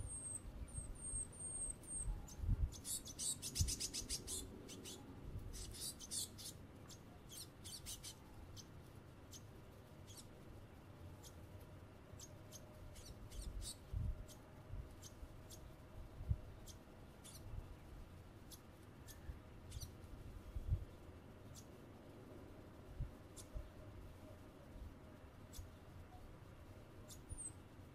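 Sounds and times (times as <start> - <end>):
small birds calling: 0.0 - 21.9, 23.2 - 27.9.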